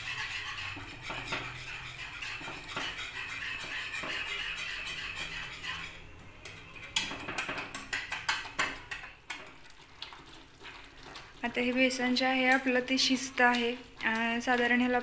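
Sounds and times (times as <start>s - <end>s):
whisk clicking against pan: 0.0s - 15.0s
whisk scraping metal pan: 0.0s - 15.0s.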